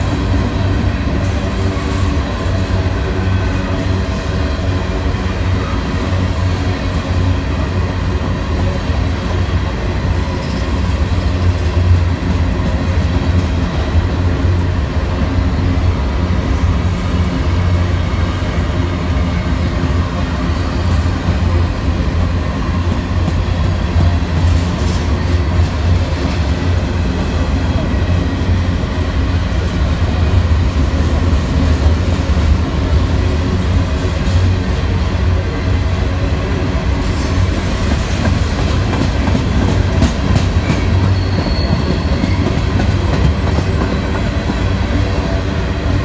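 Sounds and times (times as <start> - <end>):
wheels clickety-clack: 0.0 - 15.5, 20.4 - 35.5, 36.8 - 46.0
freight train rolling past: 0.0 - 46.0.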